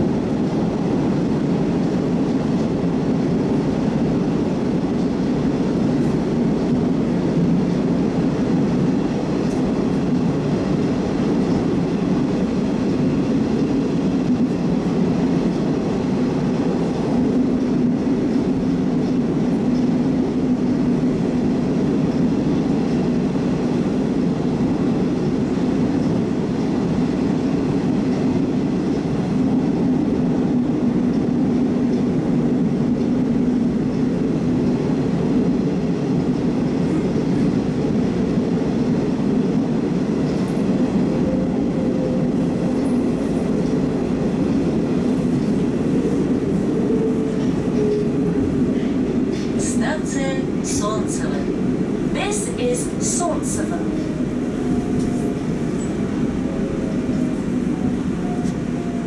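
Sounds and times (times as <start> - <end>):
metro train rumbling: 0.0 - 59.0.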